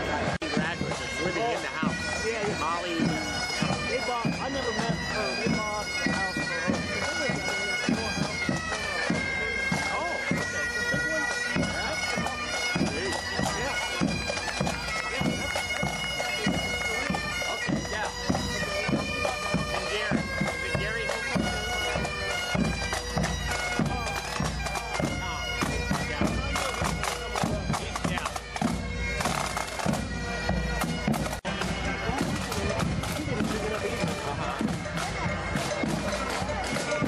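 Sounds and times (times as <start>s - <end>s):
bagpipes playing melody: 0.0s - 37.0s
drums beating: 0.0s - 37.0s.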